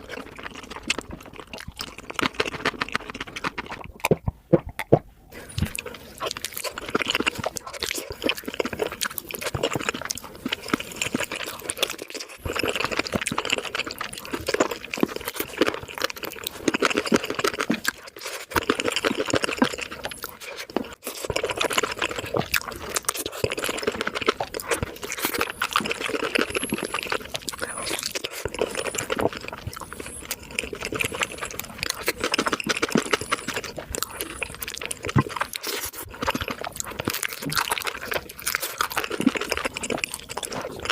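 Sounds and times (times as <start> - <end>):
wet chewing and crunching: 0.0 - 40.9.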